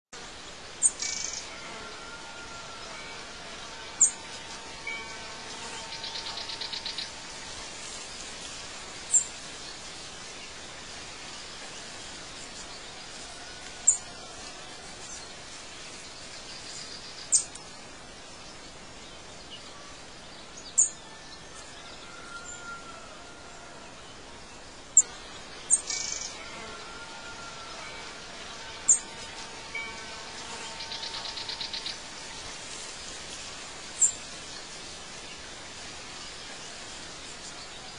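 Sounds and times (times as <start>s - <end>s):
soft hiss: 0.2s - 37.9s.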